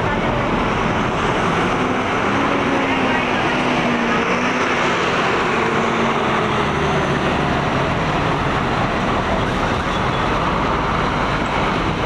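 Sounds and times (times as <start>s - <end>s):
bus diesel engine passing: 0.0s - 12.0s
traffic noise: 0.0s - 12.0s.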